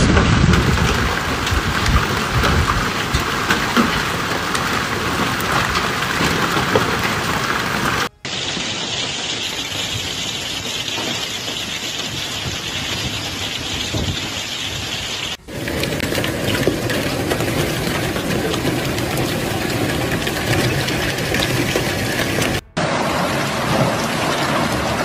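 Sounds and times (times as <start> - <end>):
heavy rain and hail: 0.0 - 25.0.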